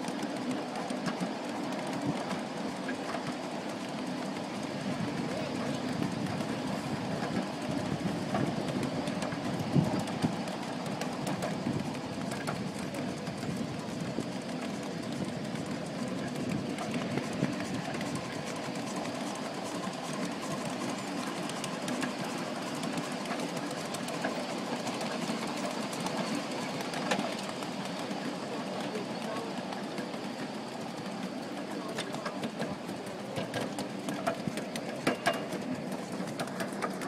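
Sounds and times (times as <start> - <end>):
rail joint clicks: 0.0 - 37.0
small steel wheels rumbling on rail: 0.0 - 37.0.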